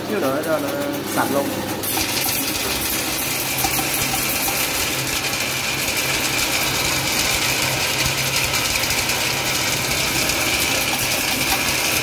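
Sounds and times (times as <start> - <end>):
drain cable spinning and rattling: 0.0 - 12.0
drain machine motor whine: 0.0 - 12.0.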